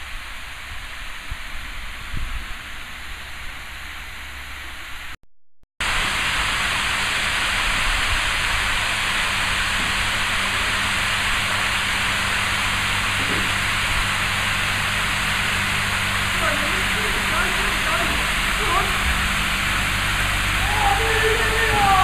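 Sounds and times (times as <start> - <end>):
steady hiss: 0.0 - 5.2, 5.8 - 22.0.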